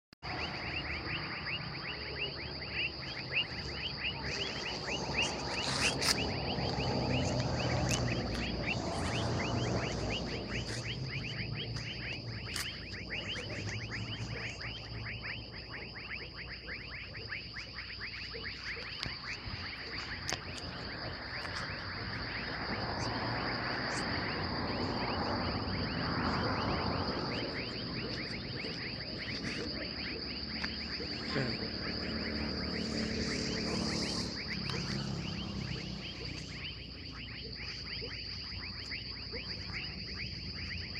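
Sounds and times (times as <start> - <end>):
insect trill: 0.2 - 40.9
chirps falling in pitch: 0.3 - 40.9
high-pitched drone: 0.3 - 40.9.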